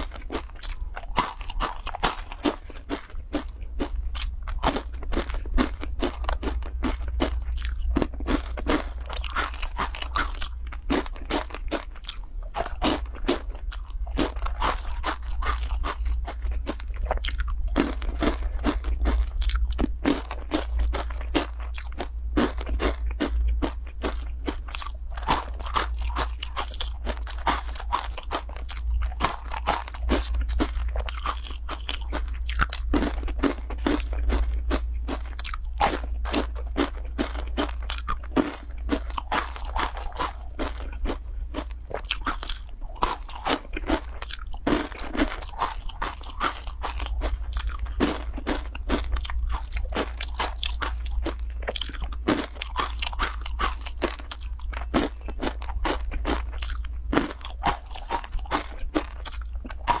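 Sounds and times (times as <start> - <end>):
crunching dry noodle snack: 0.0 - 60.0
steady low hum: 0.0 - 60.0.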